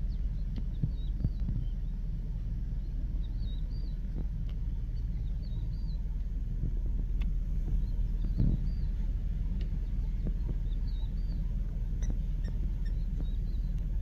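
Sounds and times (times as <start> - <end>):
low rumble: 0.0 - 14.0
small birds chirping: 0.0 - 14.0.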